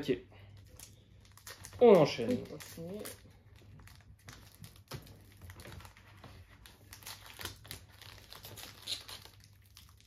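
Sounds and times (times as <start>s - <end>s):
foil pack crinkling: 0.6s - 10.0s.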